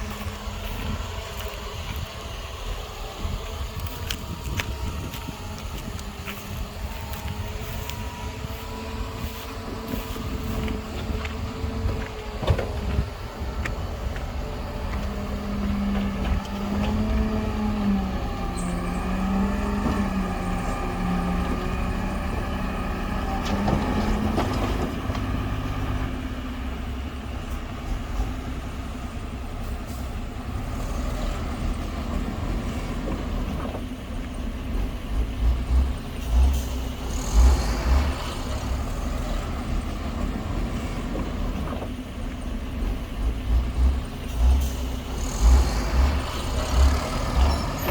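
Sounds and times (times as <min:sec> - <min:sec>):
heavy diesel machinery engine: 0:00.0 - 0:47.9.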